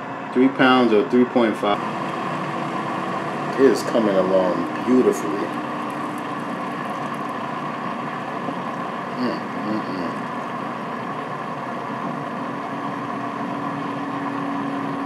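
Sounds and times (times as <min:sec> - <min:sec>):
air fryer fan whirring hum: 0:00.0 - 0:15.0.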